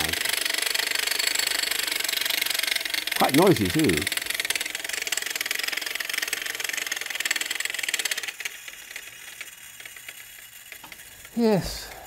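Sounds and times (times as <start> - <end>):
clockwork toy buzzing rattle: 0.0 - 12.0.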